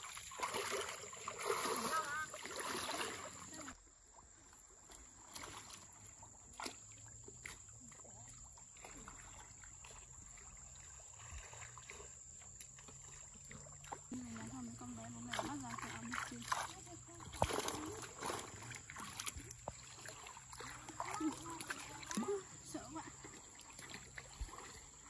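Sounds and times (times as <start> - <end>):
water lapping and dripping: 0.0 - 25.0
water splashing from wading: 0.0 - 25.0.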